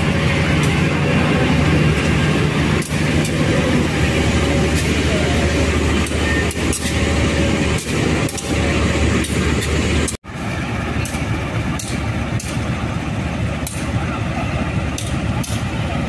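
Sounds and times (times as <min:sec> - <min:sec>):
locomotive engine idling: 0:00.0 - 0:16.0.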